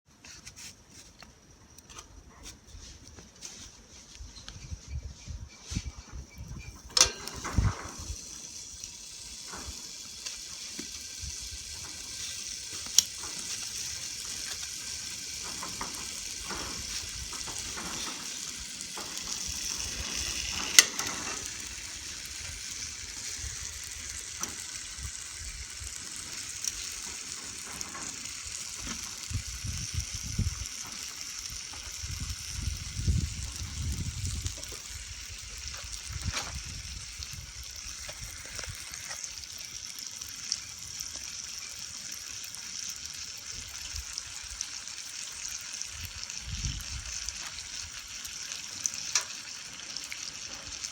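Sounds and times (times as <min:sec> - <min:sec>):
fire pops and crackles: 0:06.4 - 0:50.9
bacon sizzling in a pan: 0:06.7 - 0:50.9.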